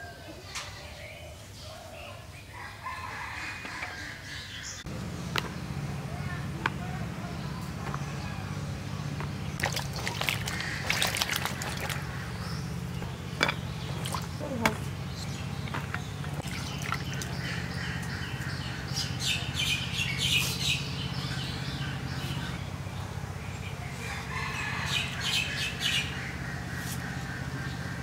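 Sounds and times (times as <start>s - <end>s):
chickens calling: 0.0s - 28.0s
steady low hum: 4.6s - 28.0s.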